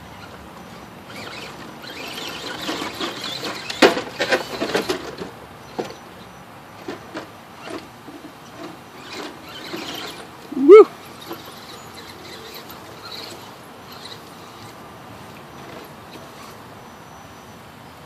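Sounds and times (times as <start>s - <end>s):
toy crawler clattering and scraping: 0.0s - 6.1s, 6.8s - 16.8s.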